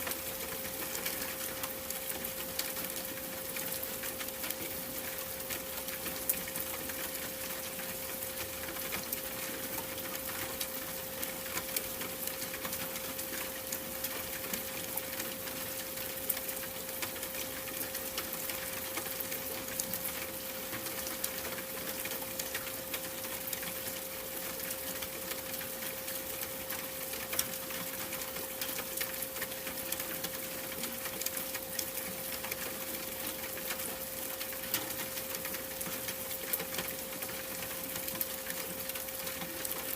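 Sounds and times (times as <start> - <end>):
constant hiss: 0.0 - 39.9
fine crackling ticks: 5.5 - 39.9.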